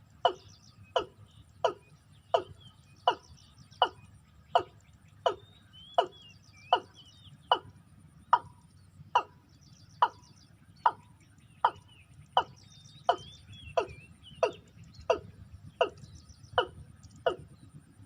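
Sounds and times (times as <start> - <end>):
small birds chirping: 0.0 - 18.0
watercock calling: 0.1 - 8.6, 9.2 - 17.6.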